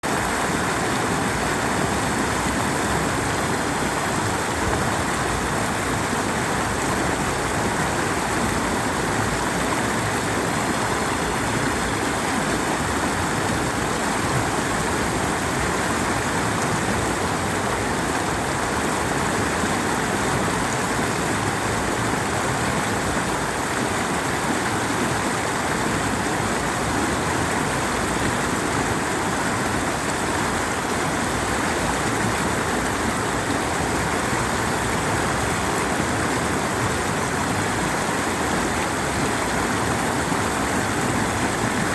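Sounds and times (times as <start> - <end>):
stream water over rocks: 0.0 - 41.9.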